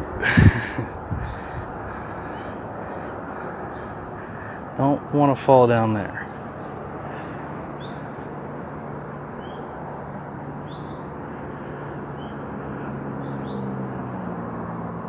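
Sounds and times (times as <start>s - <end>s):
steady rushing noise: 0.0s - 13.1s.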